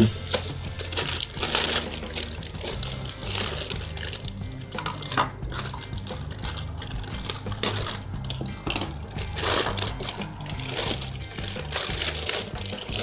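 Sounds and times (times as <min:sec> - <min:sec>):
plastic bag crinkling and rustling: 0:00.0 - 0:13.0.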